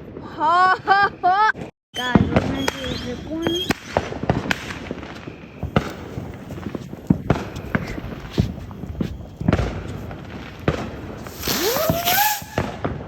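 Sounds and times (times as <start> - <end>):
firecrackers banging: 2.0 - 13.0.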